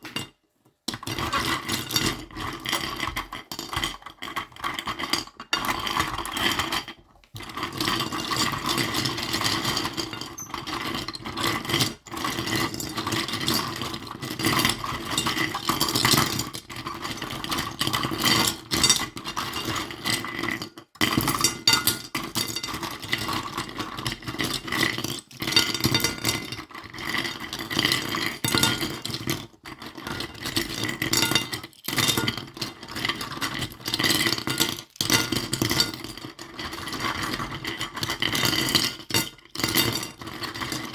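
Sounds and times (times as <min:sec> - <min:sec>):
small toys clinking and scraping: 0:01.2 - 0:20.8, 0:21.4 - 0:40.9.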